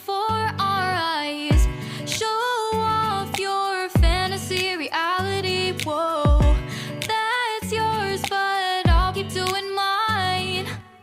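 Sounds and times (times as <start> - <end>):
pop music with singing: 0.0 - 11.0.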